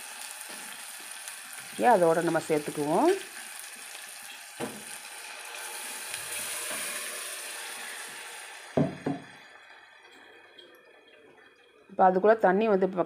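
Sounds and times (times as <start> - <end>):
onions sizzling in a pan: 0.0 - 11.1.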